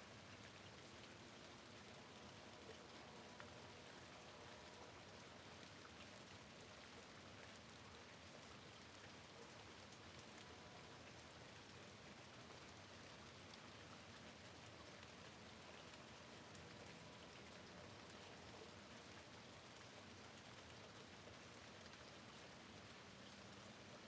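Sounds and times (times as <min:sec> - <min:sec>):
steady rain falling: 0:00.1 - 0:24.0.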